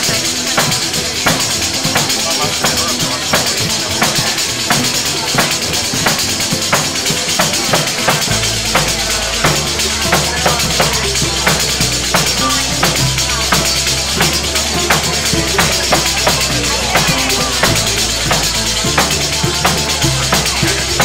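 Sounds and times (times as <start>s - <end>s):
drum hits: 0.0s - 21.0s
folk dance music: 0.0s - 21.0s
low bass: 0.0s - 21.0s
rattling percussion: 0.0s - 21.0s.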